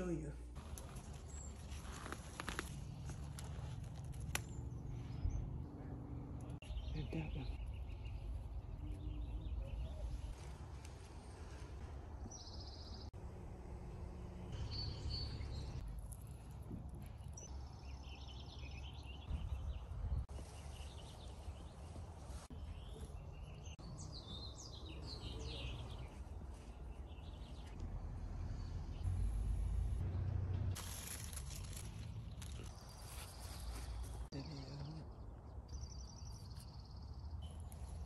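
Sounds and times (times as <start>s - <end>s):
small birds chirping: 0.0s - 13.2s, 14.5s - 30.0s, 31.0s - 38.0s.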